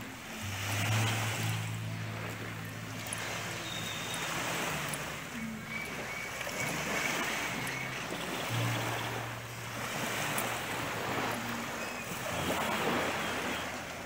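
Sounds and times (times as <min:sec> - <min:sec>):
small waves washing on sand: 0:00.0 - 0:14.0.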